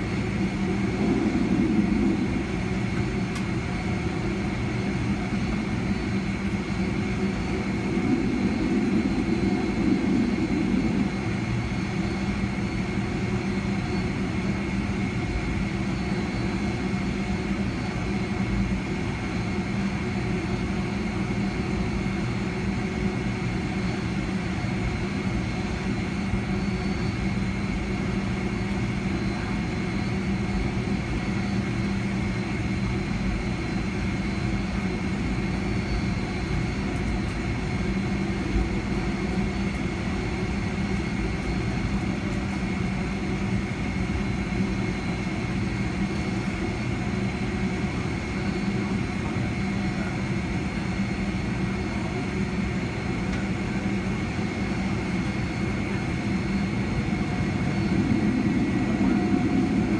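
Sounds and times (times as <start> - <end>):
jet engines humming with whine: 0.0 - 59.9.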